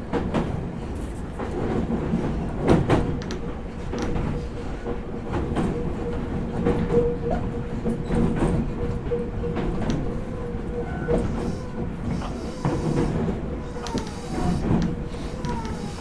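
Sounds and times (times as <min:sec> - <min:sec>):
electric train rumbling with whine: 0:00.0 - 0:16.0
wheels clicking over rail joints: 0:01.6 - 0:16.0.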